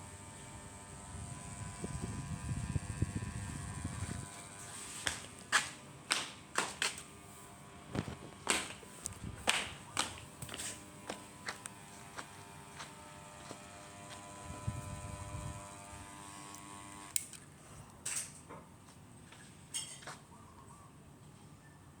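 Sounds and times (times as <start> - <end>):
small fan motor whining: 0.0 - 17.9.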